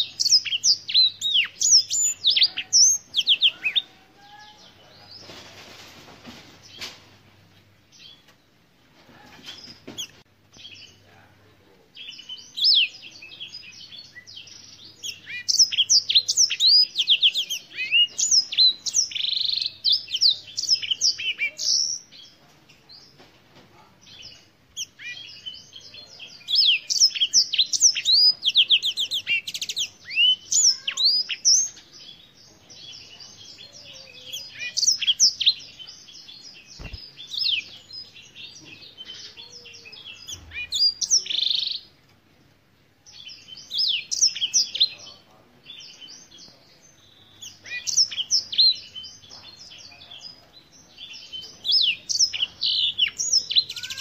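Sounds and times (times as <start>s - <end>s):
canary singing trills: 0.0s - 5.3s, 11.9s - 22.4s, 23.8s - 42.0s, 43.0s - 54.0s.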